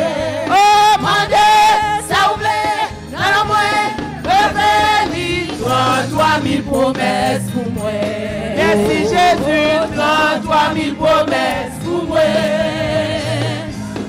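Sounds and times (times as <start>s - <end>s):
instrumental backing: 0.0s - 14.0s
voices singing together: 0.0s - 14.0s.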